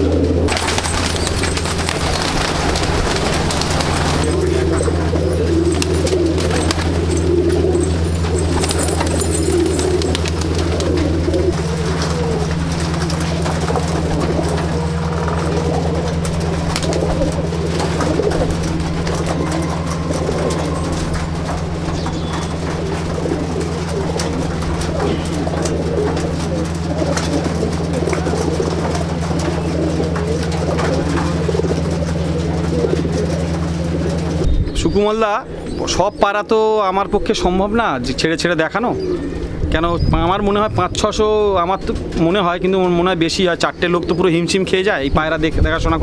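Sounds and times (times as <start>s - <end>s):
pigeons cooing: 0.0s - 46.0s
steady low hum: 0.0s - 46.0s.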